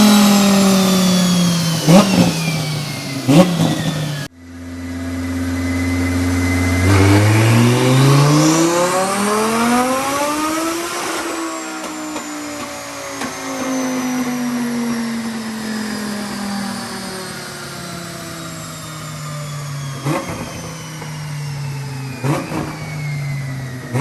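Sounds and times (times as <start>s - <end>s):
car engine revving on dyno: 0.0s - 24.0s.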